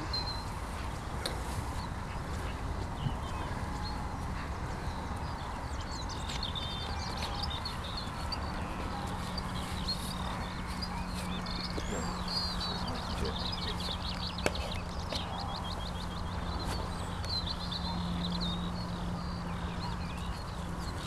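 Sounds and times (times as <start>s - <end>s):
small birds chirping: 0.0s - 21.0s
wind rumble on microphone: 0.0s - 21.0s.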